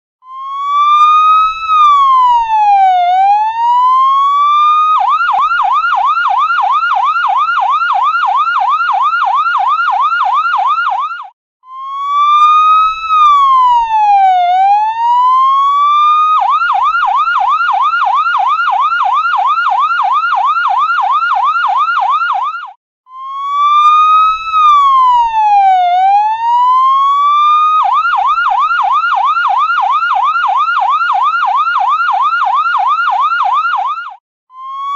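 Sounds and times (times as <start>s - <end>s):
ambulance siren wailing and yelping: 0.2s - 34.9s.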